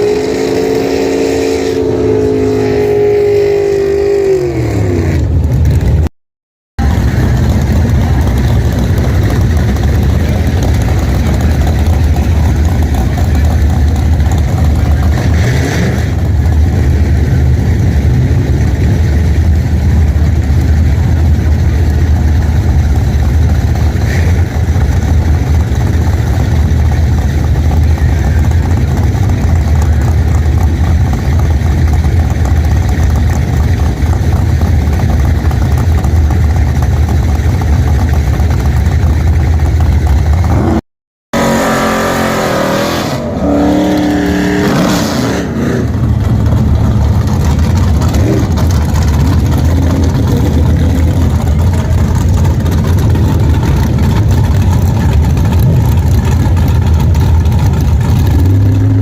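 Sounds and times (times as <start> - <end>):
car engine low rumble: 0.0 - 6.1, 6.8 - 40.8, 41.4 - 59.0.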